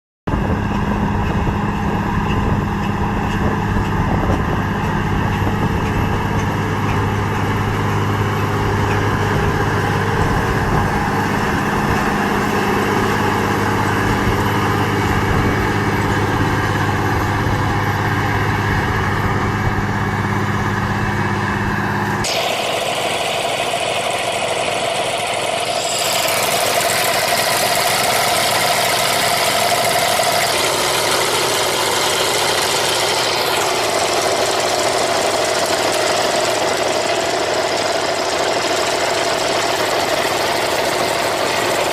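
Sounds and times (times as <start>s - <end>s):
machine engine running: 0.3s - 41.9s.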